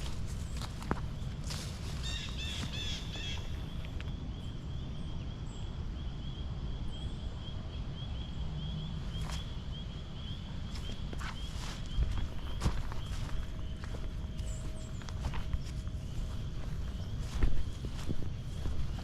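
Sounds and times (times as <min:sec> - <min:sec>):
wind and rolling rumble: 0:00.0 - 0:19.0.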